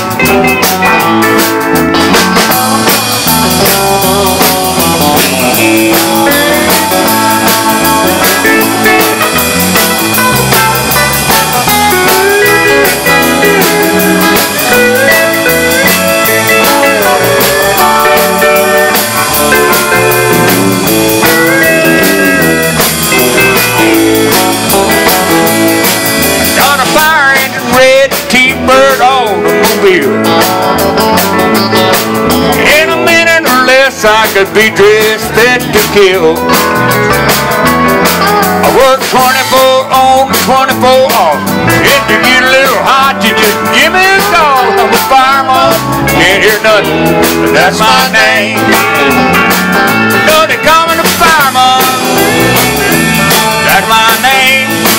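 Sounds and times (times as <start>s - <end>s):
bass guitar: 0.0s - 54.9s
electric guitars: 0.0s - 54.9s
keyboard: 0.0s - 54.9s
steady drum beat: 0.0s - 54.9s.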